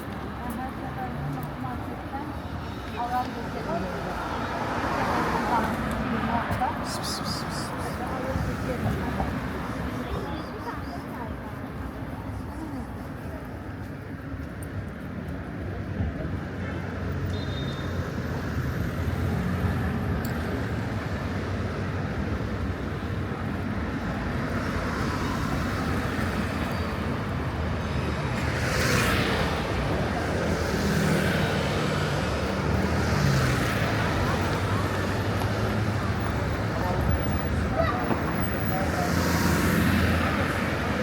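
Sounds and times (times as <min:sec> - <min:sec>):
vehicles passing by: 0:00.0 - 0:41.0.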